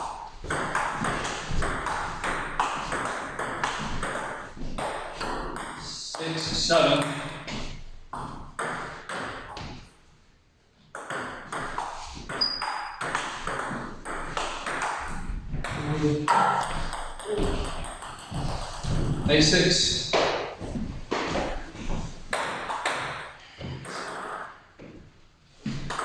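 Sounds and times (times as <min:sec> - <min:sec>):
table tennis ball bouncing: 0:00.0 - 0:10.0, 0:10.9 - 0:19.3, 0:20.1 - 0:24.9, 0:25.7 - 0:26.0.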